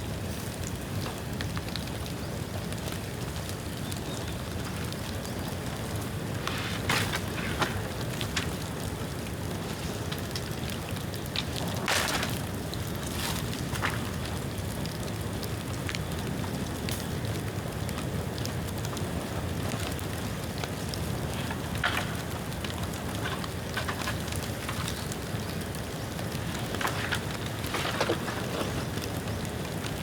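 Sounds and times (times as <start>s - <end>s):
bonfire flames rushing: 0.0s - 30.0s
burning bamboo crackling: 0.0s - 30.0s.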